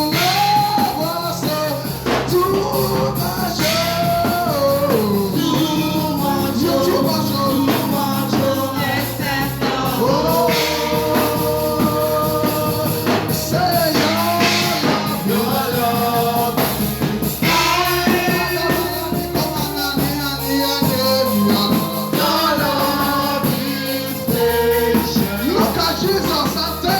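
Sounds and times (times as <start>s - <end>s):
band accompaniment: 0.0s - 26.9s
voices singing gospel: 0.0s - 26.9s.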